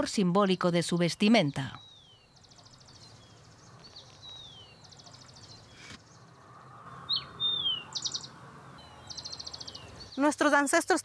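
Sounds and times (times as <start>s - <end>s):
faint outdoor hiss: 0.0s - 11.0s
high buzzy bird trills: 1.3s - 10.4s.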